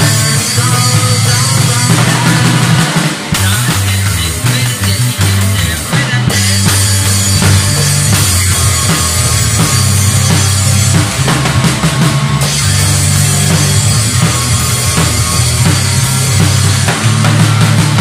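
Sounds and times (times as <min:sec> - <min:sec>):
drum kit: 0:00.0 - 0:18.0
electric bass: 0:00.0 - 0:18.0
electric guitar: 0:00.0 - 0:18.0.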